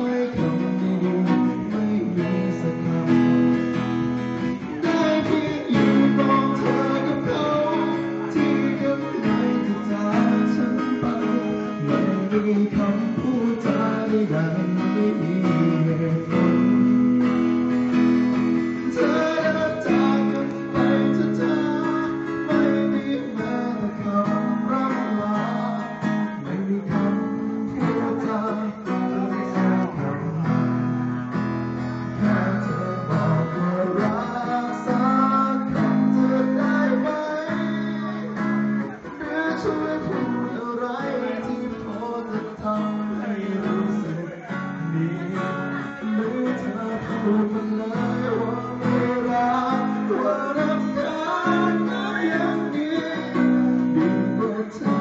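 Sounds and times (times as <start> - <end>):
man singing into microphone: 0.0 - 55.0
strummed acoustic guitar: 0.0 - 55.0.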